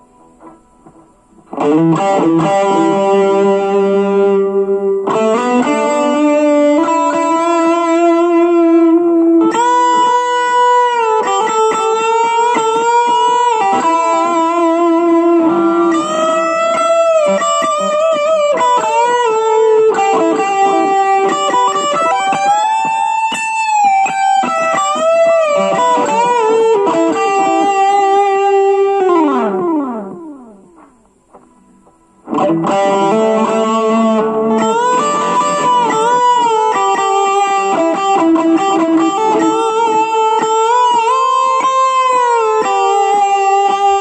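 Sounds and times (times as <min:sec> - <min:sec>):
electric guitar lead melody: 0:00.0 - 0:44.0.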